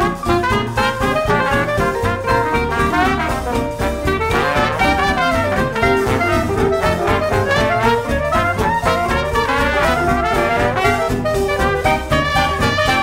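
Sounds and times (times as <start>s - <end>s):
lively jazz with brass: 0.0s - 13.0s.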